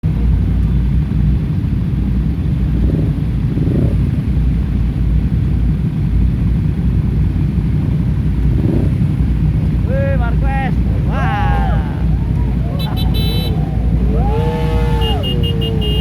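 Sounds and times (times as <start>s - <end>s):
loud steady low rumble: 0.0s - 16.0s.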